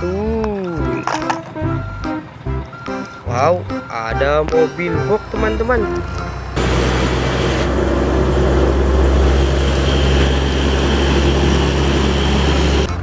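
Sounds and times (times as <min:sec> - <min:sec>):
diesel truck engine humming: 0:00.0 - 0:13.0
tyre noise on wet road: 0:00.3 - 0:13.0.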